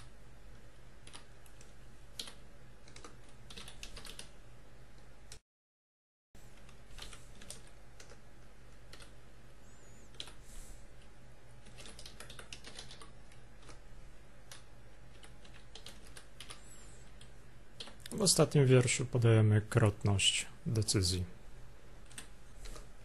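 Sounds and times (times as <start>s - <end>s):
low steady hum: 0.0s - 5.4s, 6.4s - 23.0s.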